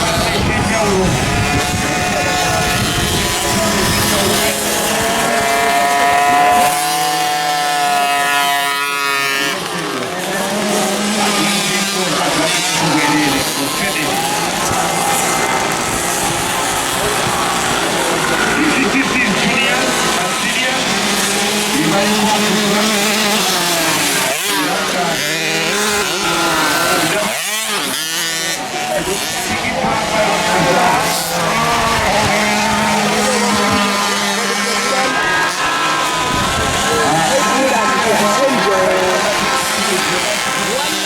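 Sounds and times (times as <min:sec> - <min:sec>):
motorcycle engines at high revs: 0:00.0 - 0:41.0.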